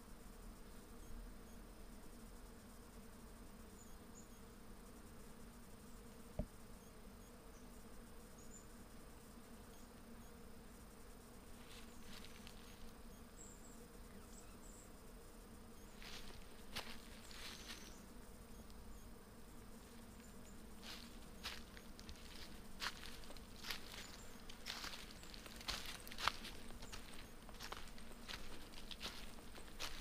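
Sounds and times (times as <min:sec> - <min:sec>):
bees buzzing: 0:00.1 - 0:30.0.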